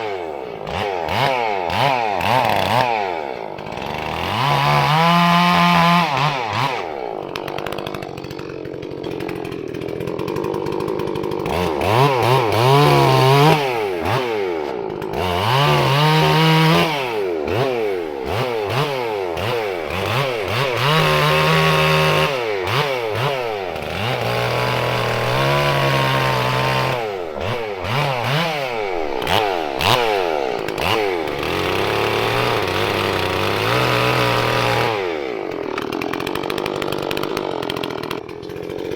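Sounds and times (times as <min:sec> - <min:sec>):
chainsaw revving while cutting wood: 0:00.0 - 0:38.9.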